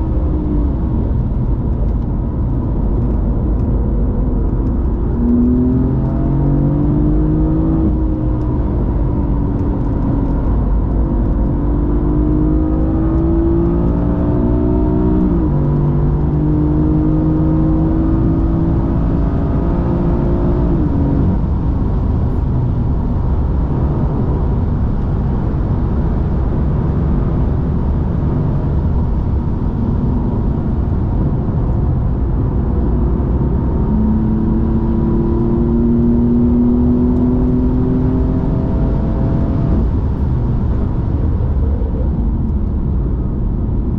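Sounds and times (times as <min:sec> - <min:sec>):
car engine accelerating hard: 0:00.0 - 0:43.9
wet tyre and road noise: 0:00.0 - 0:43.9.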